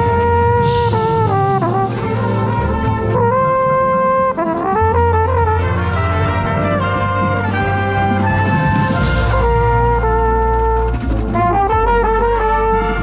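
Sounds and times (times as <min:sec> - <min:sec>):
brass line playing loud chords: 0:00.0 - 0:13.0.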